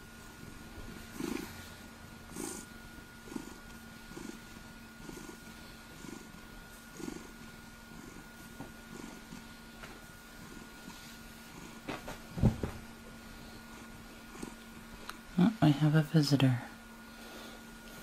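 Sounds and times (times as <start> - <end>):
cat purring: 0.2 - 15.4.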